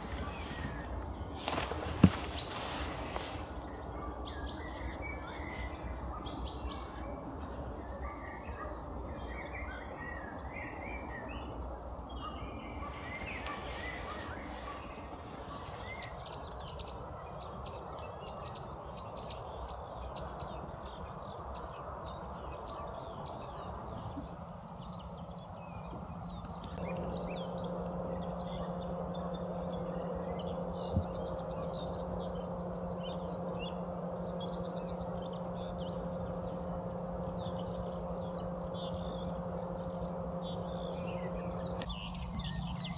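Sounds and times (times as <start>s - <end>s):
small birds chirping: 0.0s - 42.9s
steady low hum: 0.0s - 42.9s.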